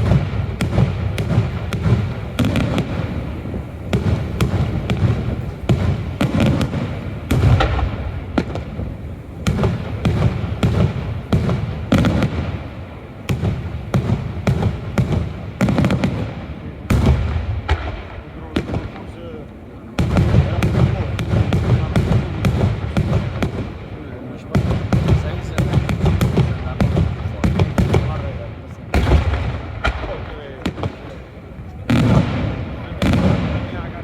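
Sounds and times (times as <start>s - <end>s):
fireworks bangs and booms: 0.0s - 34.0s.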